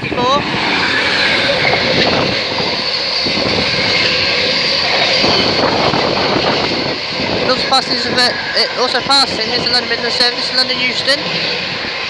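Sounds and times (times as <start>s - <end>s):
diesel locomotive passing at speed: 0.0s - 12.0s.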